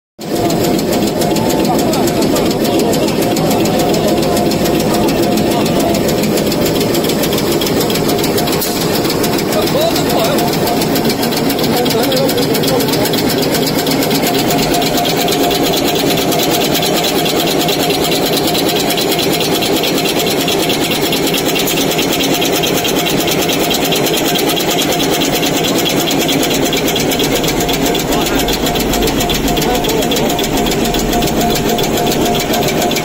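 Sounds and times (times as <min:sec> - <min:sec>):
napkin folding machine clattering: 0:00.2 - 0:33.0
steady machine hum: 0:00.2 - 0:33.0.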